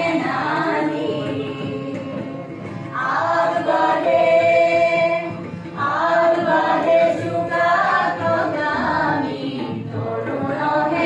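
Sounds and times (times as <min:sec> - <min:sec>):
harmonium: 0:00.0 - 0:11.0
women singing in chorus: 0:00.0 - 0:11.0.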